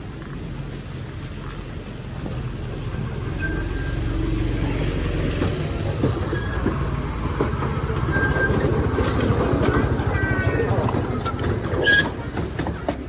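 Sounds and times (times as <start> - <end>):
rail clicks: 0.0 - 13.0
trolley rumbling on track: 0.0 - 13.0
wheel squeals: 2.3 - 13.0.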